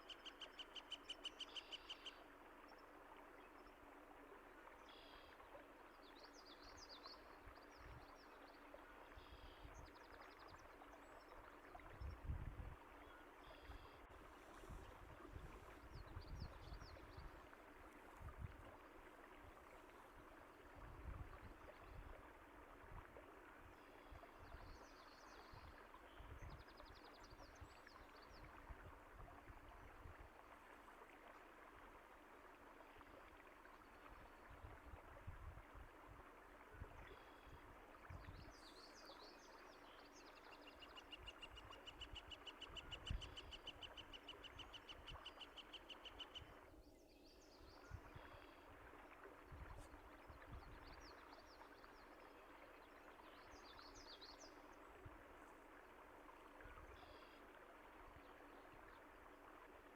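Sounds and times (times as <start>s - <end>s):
stream running water: 0.0s - 59.9s.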